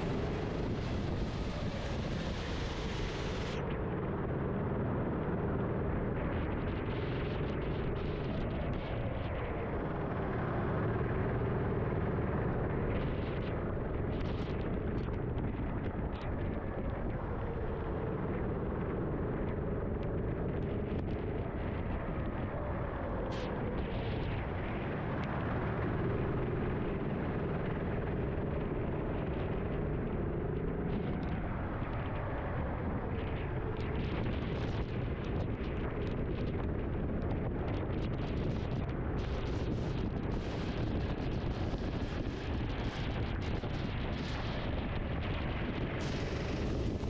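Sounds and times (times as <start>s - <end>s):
constant noisy rush: 0.0s - 47.0s.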